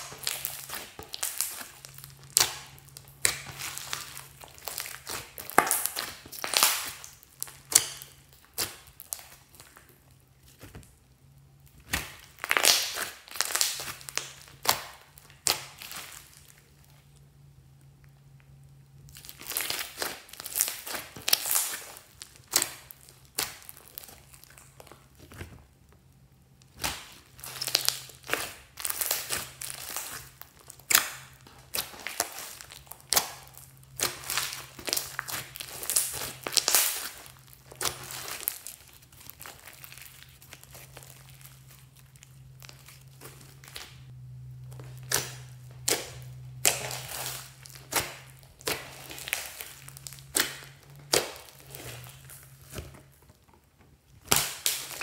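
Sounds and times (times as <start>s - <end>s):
slime crackling and popping: 0.0s - 55.0s.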